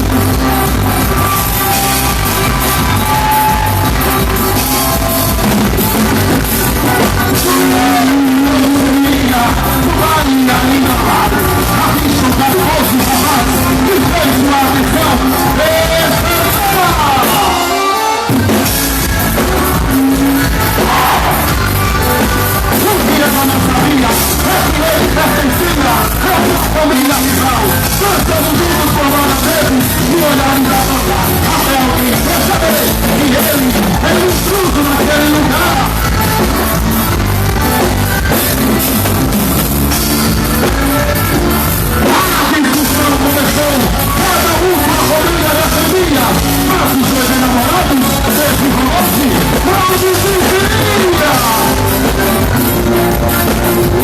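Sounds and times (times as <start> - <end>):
loud music with singing: 0.0 - 54.0.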